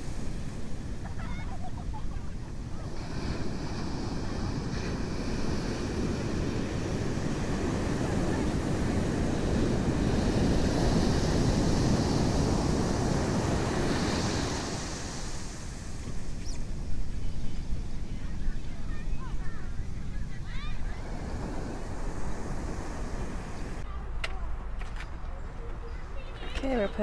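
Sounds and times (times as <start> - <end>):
ocean surf breaking on beach: 0.0 - 23.9
wind buffeting microphone: 0.0 - 27.0.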